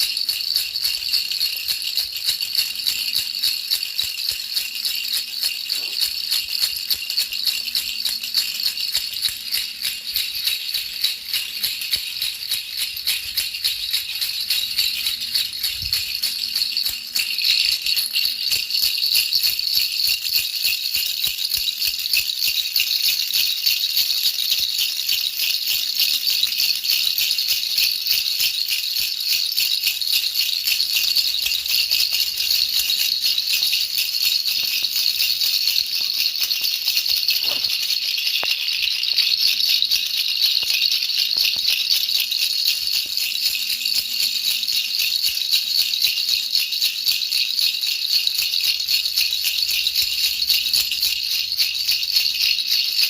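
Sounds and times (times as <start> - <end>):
baby rattle shaken: 0.0 - 53.0.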